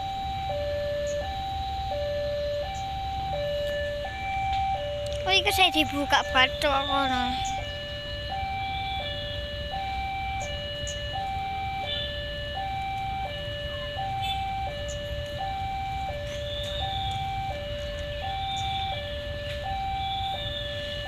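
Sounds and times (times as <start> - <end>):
level crossing two-tone alarm: 0.0 - 21.0
low wind or road rumble: 0.0 - 21.0.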